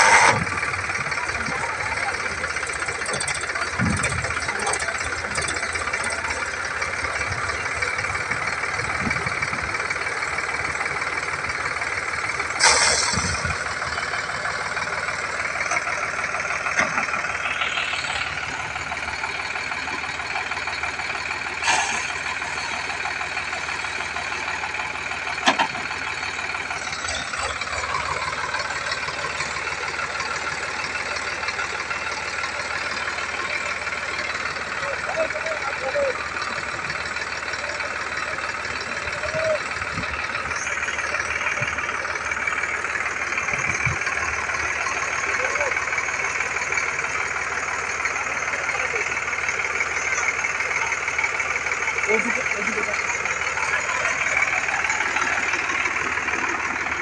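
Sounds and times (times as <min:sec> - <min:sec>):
tractor diesel engine straining: 0:00.0 - 0:57.0.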